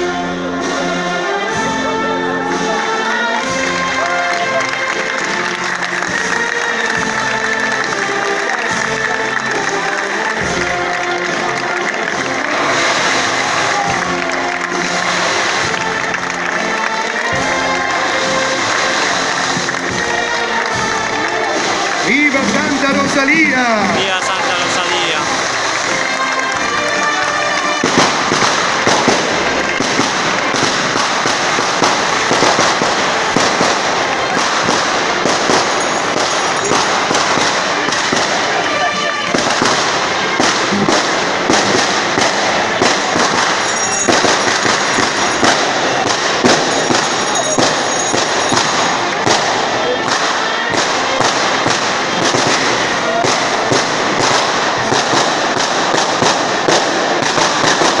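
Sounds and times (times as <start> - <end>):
firecrackers crackling: 0.0 - 58.0
firecracker bangs: 2.5 - 58.0.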